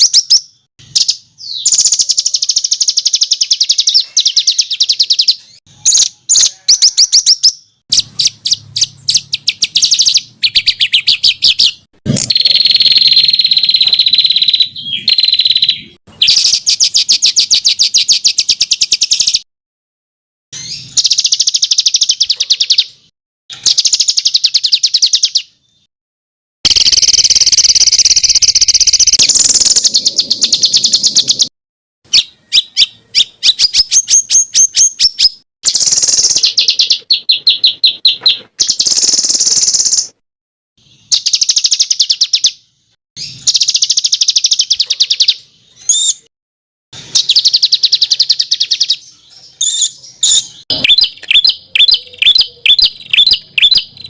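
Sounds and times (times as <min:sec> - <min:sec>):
songbird trilling: 0:00.0 - 0:19.4, 0:20.6 - 0:22.9, 0:26.7 - 0:31.5, 0:32.1 - 0:40.1, 0:43.2 - 0:46.3, 0:47.2 - 0:54.0.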